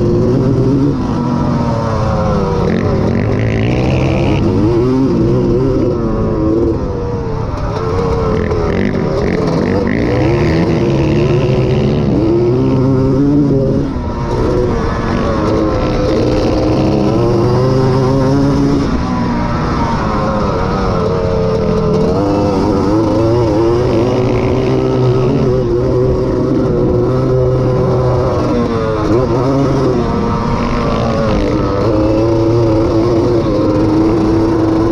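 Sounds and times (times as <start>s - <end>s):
two-stroke engine revving: 0.0s - 34.9s.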